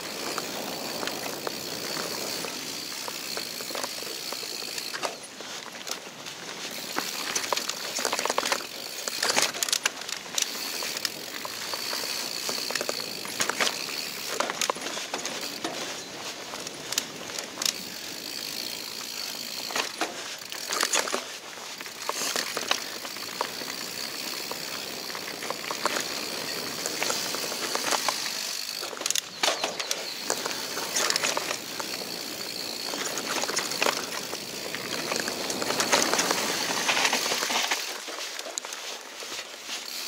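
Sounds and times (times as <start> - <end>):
bike rattling over bumps: 0.0 - 40.0
bike tyres running over dirt: 0.0 - 40.0.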